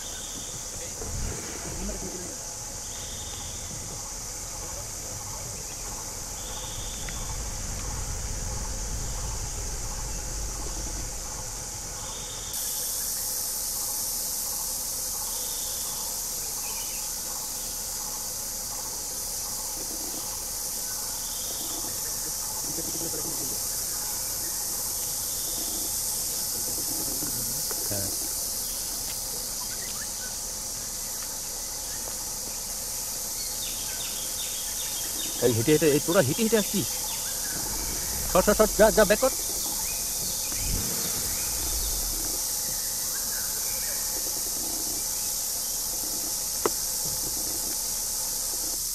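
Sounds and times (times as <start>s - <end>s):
insects buzzing: 0.0s - 48.9s.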